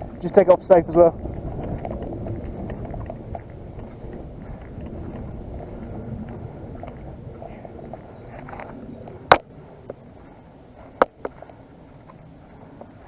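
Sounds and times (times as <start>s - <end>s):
low rumbling on microphone: 0.0s - 13.0s.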